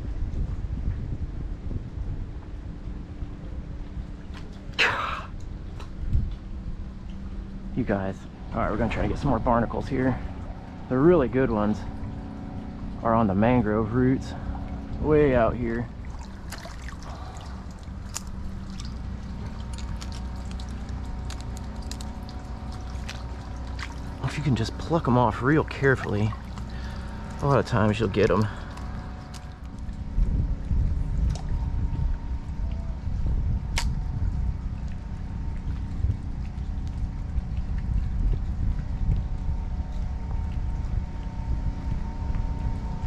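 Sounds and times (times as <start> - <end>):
faint steady hum: 0.0 - 43.0
low steady rumble: 0.0 - 43.0
wind buffeting microphone: 0.0 - 43.0
water sloshing: 2.5 - 43.0.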